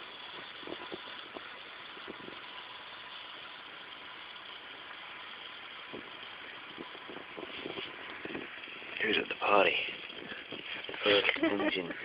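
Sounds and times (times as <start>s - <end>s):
model steam engine hissing: 0.0s - 12.0s.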